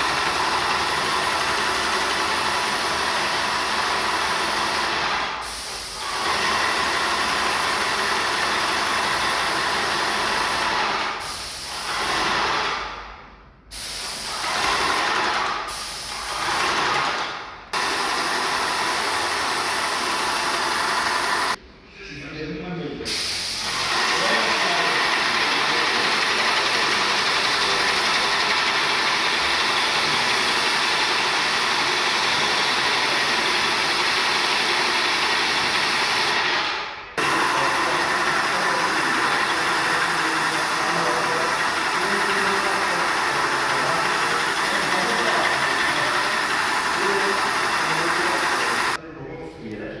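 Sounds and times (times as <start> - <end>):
paint sprayer hissing: 0.0 - 13.0, 13.7 - 17.0, 17.7 - 21.6, 23.1 - 49.0.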